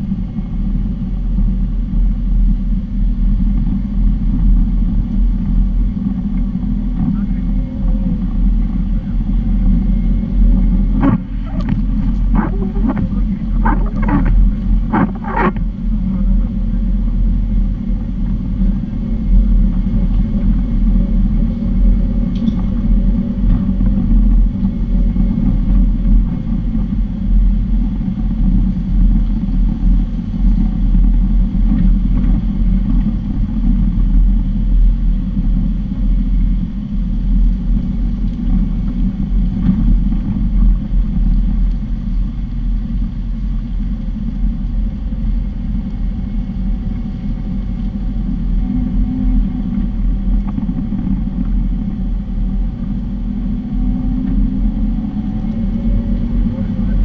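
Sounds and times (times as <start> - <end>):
vehicle engine and tyres rumbling: 0.0 - 57.0.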